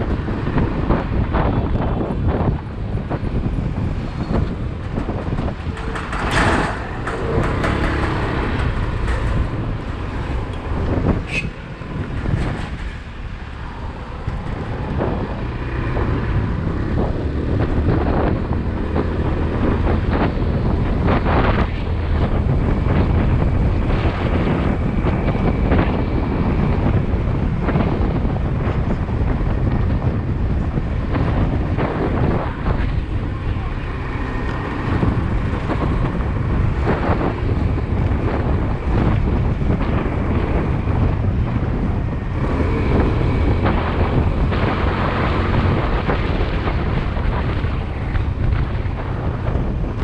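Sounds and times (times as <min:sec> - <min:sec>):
motorcycle engine and road rumble: 0:00.0 - 0:50.0
passing traffic: 0:00.0 - 0:50.0
wind buffeting microphone: 0:00.0 - 0:50.0.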